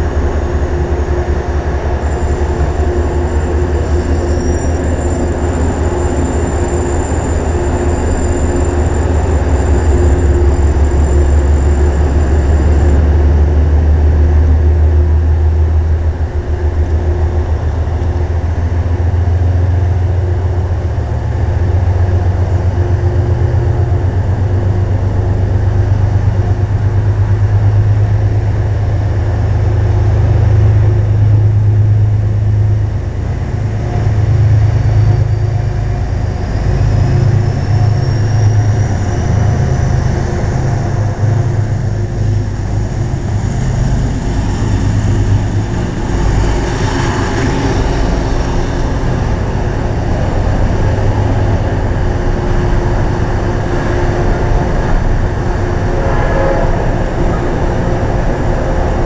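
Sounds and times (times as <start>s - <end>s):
faint rising whine: 0.0s - 59.0s
train rumbling: 0.0s - 59.0s.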